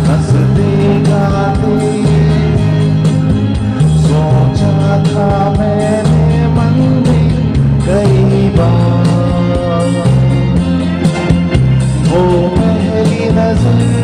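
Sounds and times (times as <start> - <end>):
man singing into a microphone: 0.0 - 10.8, 12.0 - 14.0
bass line: 0.0 - 14.0
live band music with guitar: 0.0 - 14.0.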